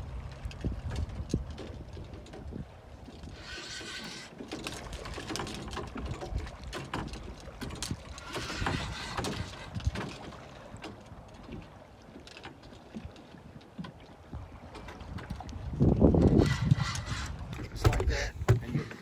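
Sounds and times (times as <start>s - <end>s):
wind rumbling on microphone: 0.0s - 4.1s, 4.7s - 11.8s, 14.2s - 19.0s.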